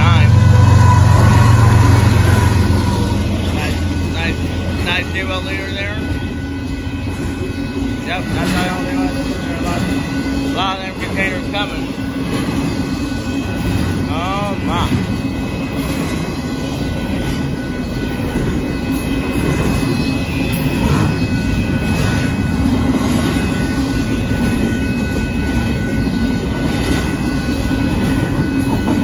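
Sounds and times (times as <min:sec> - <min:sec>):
crossing warning bell ringing: 0:00.0 - 0:29.0
freight train rumbling on rails: 0:00.0 - 0:29.0.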